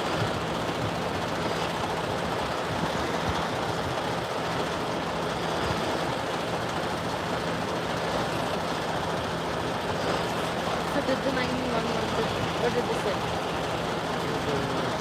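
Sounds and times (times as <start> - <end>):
constant rushing noise: 0.0 - 15.0
vehicle engine idling: 0.0 - 15.0.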